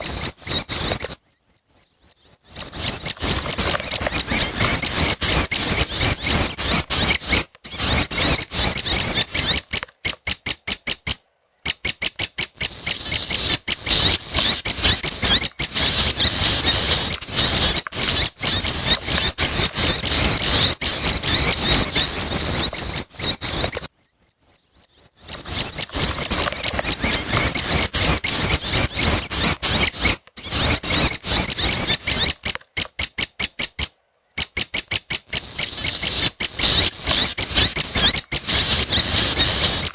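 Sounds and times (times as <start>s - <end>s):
young bird begging calls: 0.0s - 1.2s, 2.0s - 23.9s, 24.8s - 39.9s.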